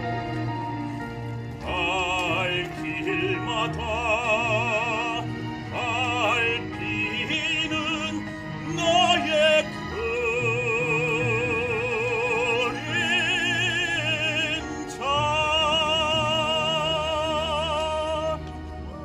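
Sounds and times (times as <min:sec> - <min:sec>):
instrumental backing track: 0:00.0 - 0:19.0
man singing operatically: 0:01.6 - 0:19.0.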